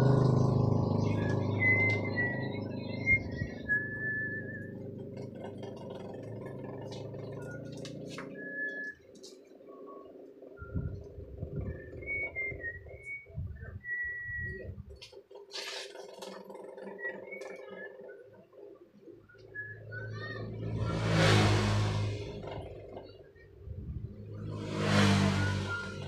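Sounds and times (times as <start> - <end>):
motor vehicles passing by: 0.0 - 13.1, 14.4 - 26.0.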